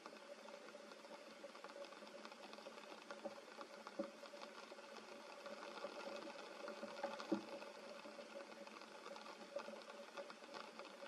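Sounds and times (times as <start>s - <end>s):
faint steady hum: 0.0s - 11.0s
rain pattering on leaves: 0.0s - 11.0s.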